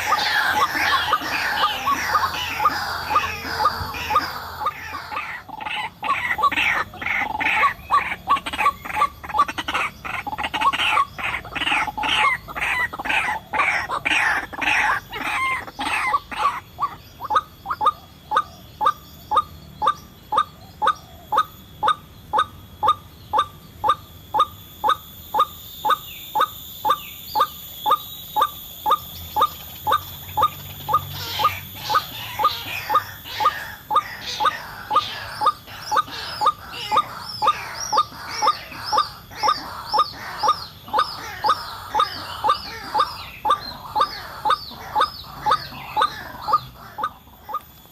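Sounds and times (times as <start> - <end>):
waterhen calling: 0.0 - 47.9.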